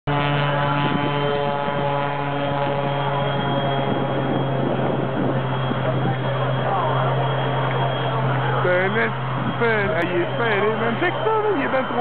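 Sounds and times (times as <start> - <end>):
biplane engine droning: 0.1 - 12.0.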